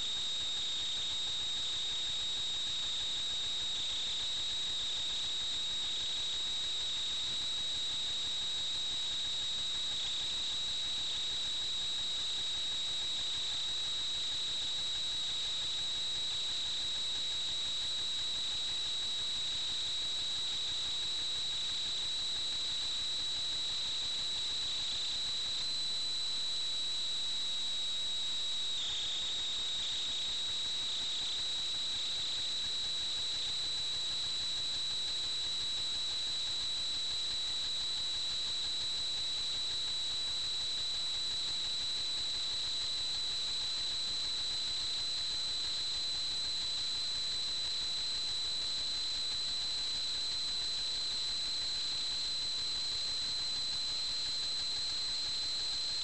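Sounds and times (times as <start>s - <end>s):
high-pitched motor whine: 0.0s - 56.0s.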